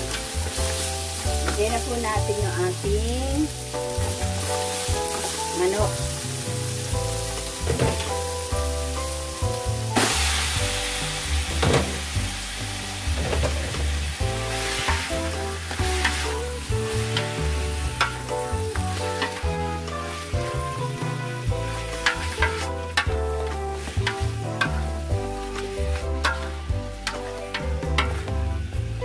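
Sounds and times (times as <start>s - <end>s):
background music: 0.0s - 29.0s
food sizzling in oil: 0.0s - 29.0s.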